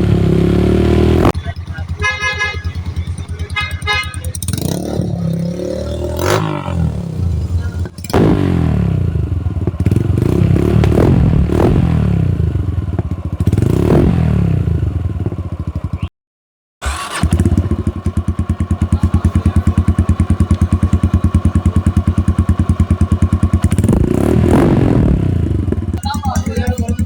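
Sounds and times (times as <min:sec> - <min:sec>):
motorcycle revving and idling: 0:00.0 - 0:16.1, 0:16.8 - 0:27.0.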